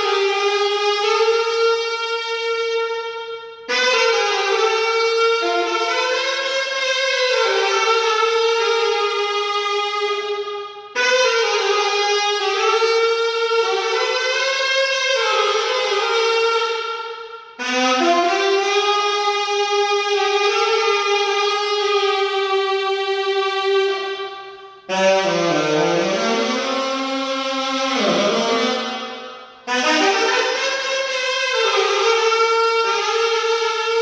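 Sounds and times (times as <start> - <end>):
alto saxophone long notes: 0.0 - 34.0.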